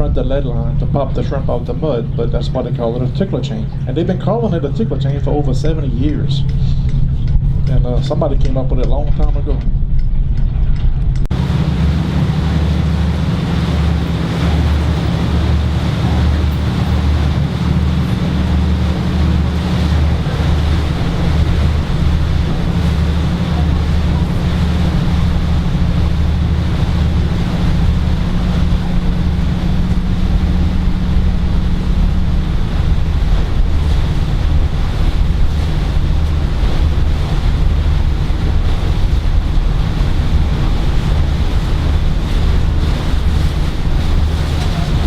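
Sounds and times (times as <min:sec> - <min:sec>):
water rushing past hull: 0:00.0 - 0:09.6, 0:10.8 - 0:45.0
boat engine droning: 0:00.0 - 0:45.0
wind buffeting microphone: 0:00.0 - 0:45.0.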